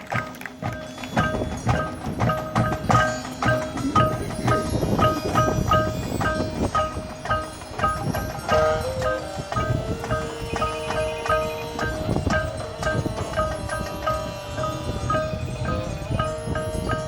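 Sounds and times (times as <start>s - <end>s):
mallet percussion pattern: 0.0s - 17.0s.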